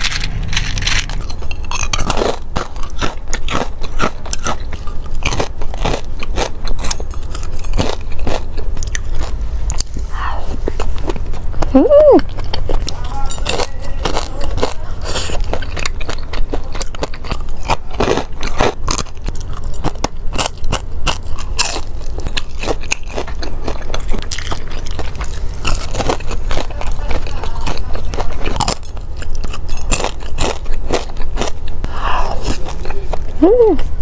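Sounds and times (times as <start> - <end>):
chewing crunchy food: 0.0 - 34.0
low steady hum: 0.0 - 34.0.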